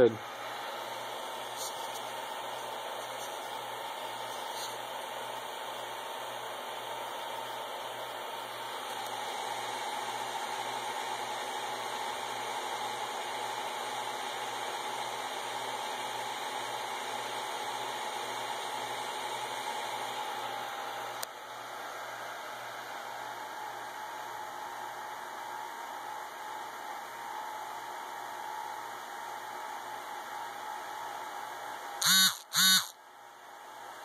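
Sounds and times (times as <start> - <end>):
cooling fans rushing air: 0.0 - 34.0
faint fan whine: 0.0 - 34.0.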